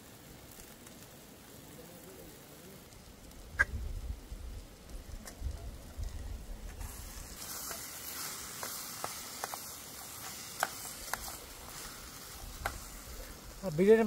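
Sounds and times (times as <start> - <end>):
chicken frying sizzle: 0.0 - 14.0.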